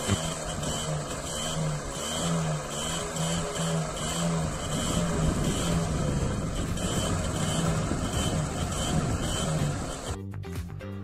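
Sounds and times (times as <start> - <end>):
small two-stroke moped engine running: 0.0 - 10.2.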